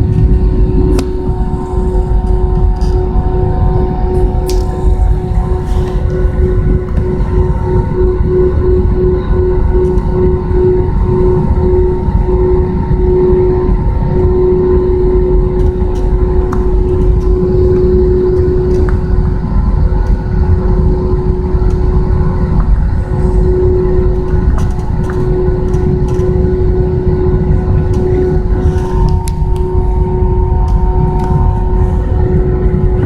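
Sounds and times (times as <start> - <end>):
aircraft cabin low rumble: 0.0 - 33.0
constant hum: 0.0 - 33.0.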